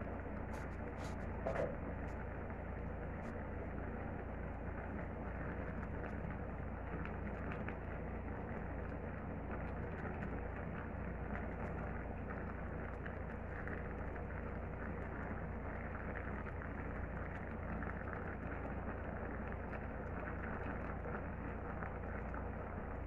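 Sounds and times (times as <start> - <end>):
faint crackles: 0.0 - 23.0
pot simmering and bubbling: 0.0 - 23.0.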